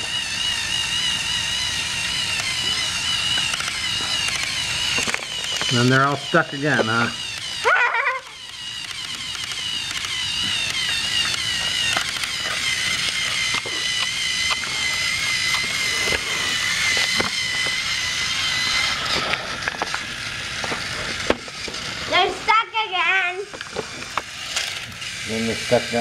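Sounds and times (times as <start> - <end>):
plastic wheels clicking on track: 0.0 - 26.0
toy train motors whining: 0.0 - 26.0.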